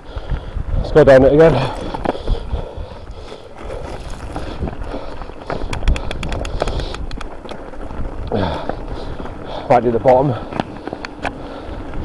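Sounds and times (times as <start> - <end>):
bike rattling over stones: 1.0 - 12.0
bike tyres rumbling over slate: 1.1 - 12.0.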